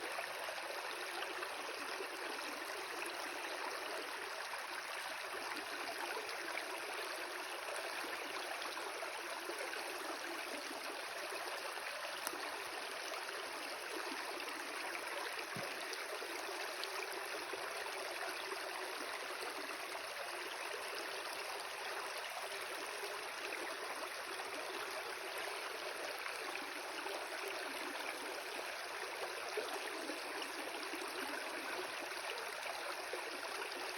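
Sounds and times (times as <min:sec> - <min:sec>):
stream water flowing: 0:00.0 - 0:33.9.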